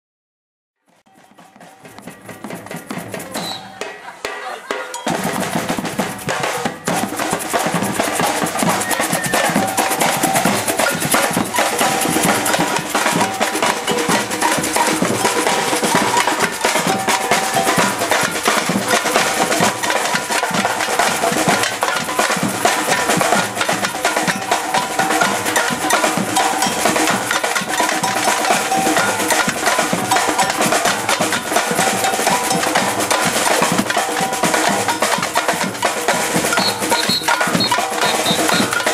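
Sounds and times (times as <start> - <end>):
percussion troupe drumming: 1.0 - 38.9.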